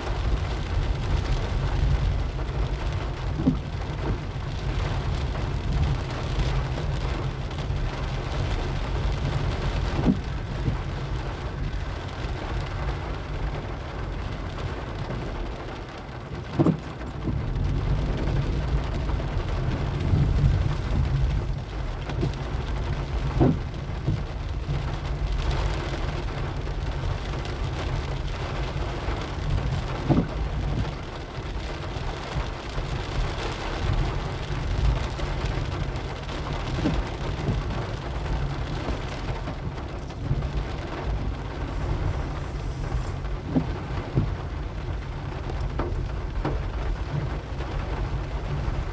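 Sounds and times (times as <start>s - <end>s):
engine and road rumble: 0.0s - 48.9s
rain on a car: 0.0s - 48.9s.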